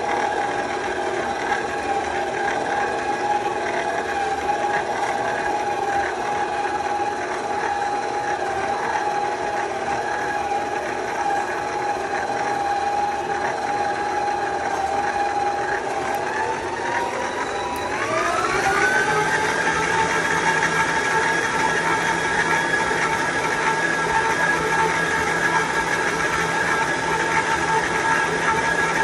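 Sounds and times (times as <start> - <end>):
stand mixer kneading dough: 0.0 - 29.0.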